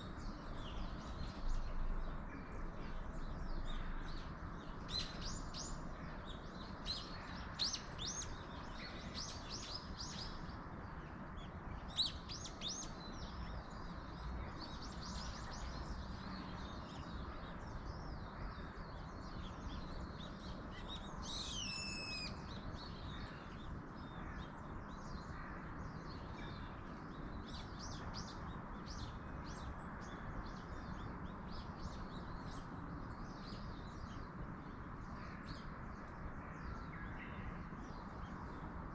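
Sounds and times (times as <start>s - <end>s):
wind in trees: 0.0s - 38.9s.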